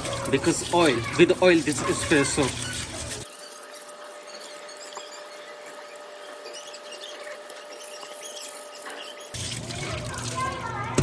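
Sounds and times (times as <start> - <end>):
metal parts scratching and clicking: 0.0 - 9.4.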